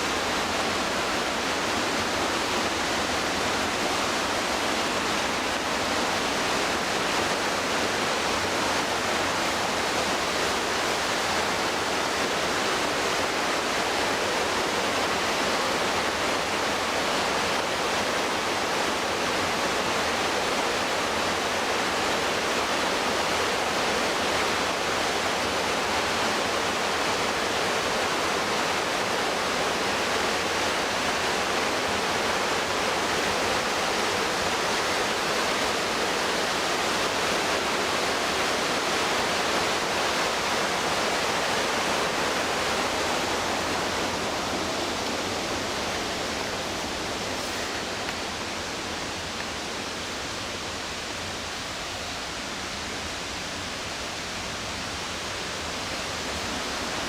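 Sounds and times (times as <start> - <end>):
white water rushing: 0.0 - 57.0.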